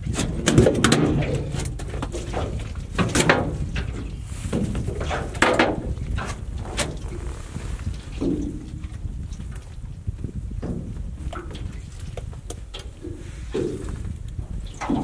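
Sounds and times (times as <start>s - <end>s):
low rumble: 1.1s - 15.0s.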